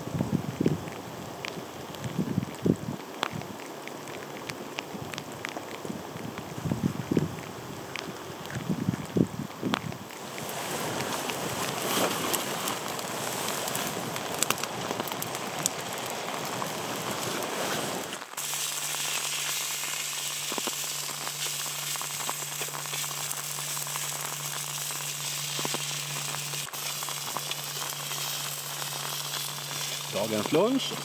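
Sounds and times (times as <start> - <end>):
food frying sizzle: 0.0 - 31.0
low hum of stove: 0.0 - 31.0
rain: 0.0 - 31.0
wind: 0.0 - 31.0.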